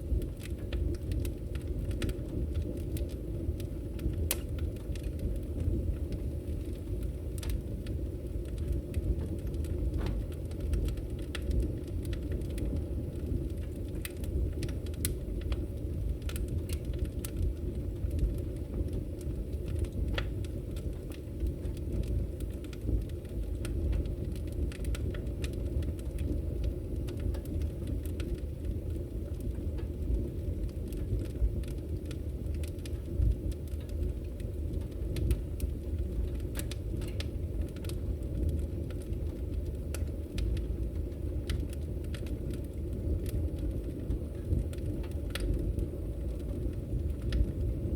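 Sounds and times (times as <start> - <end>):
burning logs crackling and popping: 0.0 - 47.9
low fire rumble: 0.0 - 47.9.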